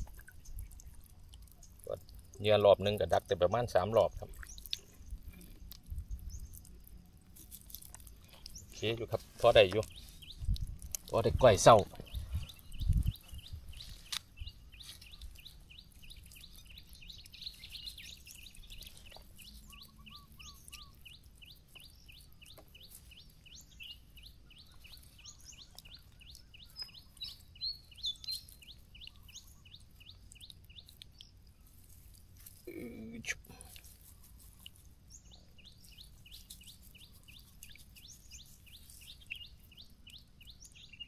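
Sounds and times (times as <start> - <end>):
bird chirping: 0.0 - 7.0, 7.7 - 41.0.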